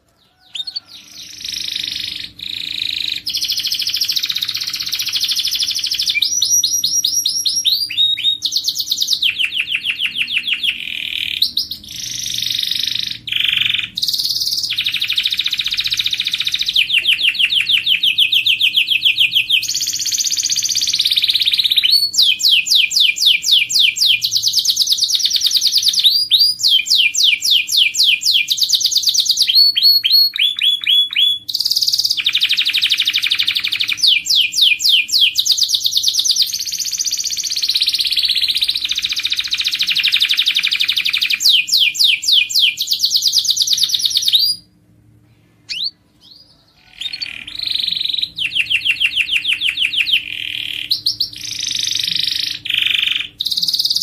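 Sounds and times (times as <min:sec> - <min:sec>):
canary singing trills: 0:00.0 - 0:44.7, 0:45.7 - 0:54.0.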